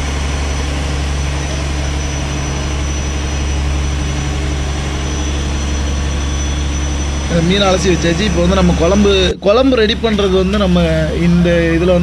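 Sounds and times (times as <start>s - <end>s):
diesel engine drone: 0.0s - 12.0s
high engine whine: 0.0s - 12.0s.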